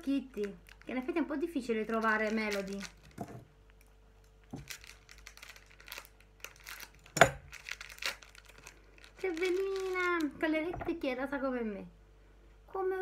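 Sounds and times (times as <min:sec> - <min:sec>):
plastic wrapper crinkling: 0:00.0 - 0:10.5.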